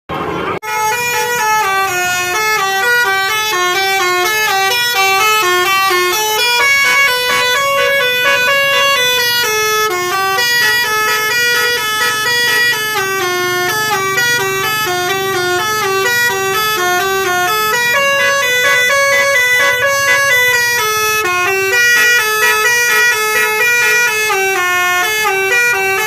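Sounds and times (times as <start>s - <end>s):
melodic bus horn: 0.2s - 26.0s.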